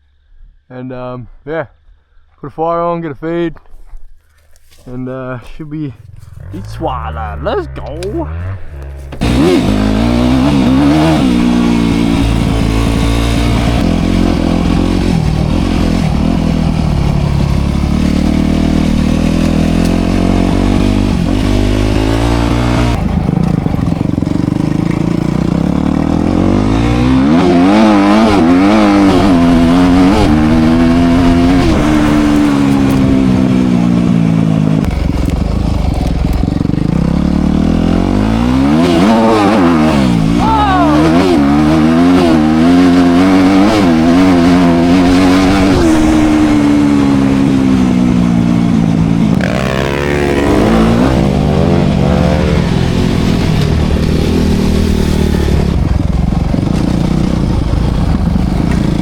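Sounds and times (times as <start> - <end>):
dirt bike engine revving: 6.0 - 59.0.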